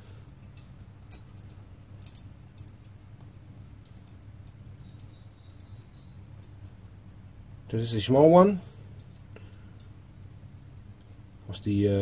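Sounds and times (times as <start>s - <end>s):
light ticks and water drips: 0.0s - 12.0s
steady low hum: 0.0s - 12.0s.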